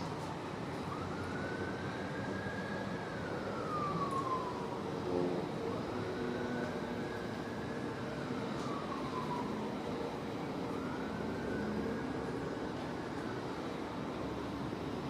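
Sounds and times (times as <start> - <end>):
warning siren wailing: 0.3 - 15.0.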